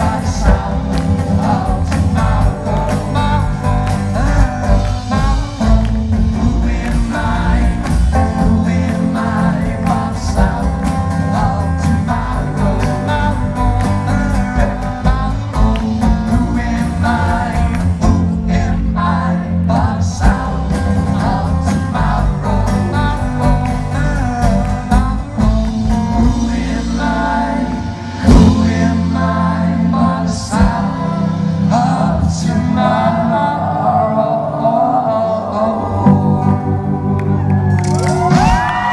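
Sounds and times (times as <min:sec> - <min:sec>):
live band playing: 0:00.0 - 0:38.9
person singing: 0:00.0 - 0:38.9.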